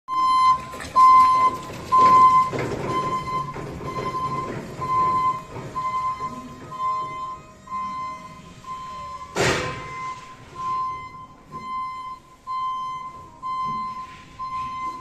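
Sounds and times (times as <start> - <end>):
reach truck warning beeps: 0.1 - 15.0.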